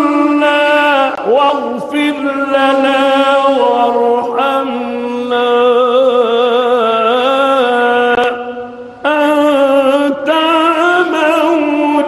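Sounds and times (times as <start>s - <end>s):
man chanting melodically into microphone: 0.0s - 12.0s.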